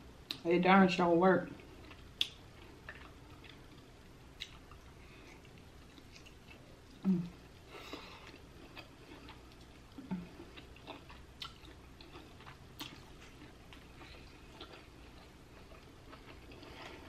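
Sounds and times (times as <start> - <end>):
chewing with wet mouth clicks: 1.6 - 7.0, 7.9 - 17.0.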